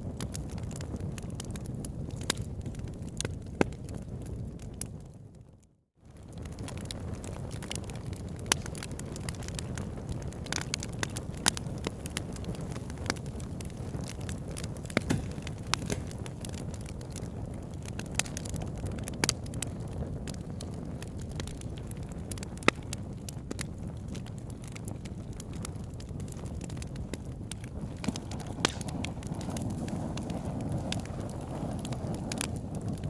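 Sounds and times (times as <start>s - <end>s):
low fire rumble: 0.0s - 33.0s
wood fire crackling and popping: 0.0s - 33.0s.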